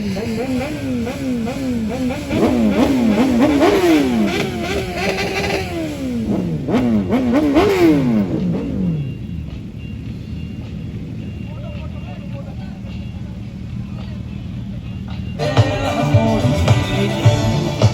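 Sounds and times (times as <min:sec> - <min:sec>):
motorbike engines revving: 0:00.0 - 0:17.9.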